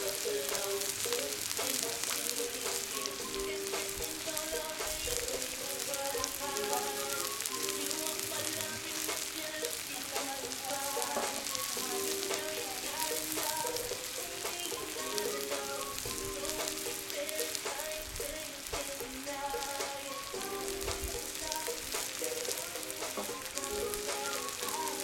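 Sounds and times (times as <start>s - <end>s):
meat sizzling in hot oil: 0.0s - 25.0s
music playing: 0.0s - 25.0s.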